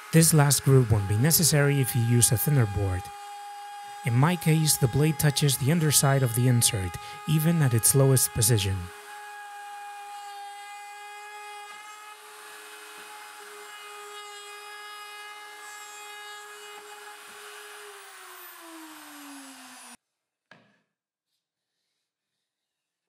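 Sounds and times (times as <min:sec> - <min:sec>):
router spindle motor whining: 0:00.0 - 0:20.0.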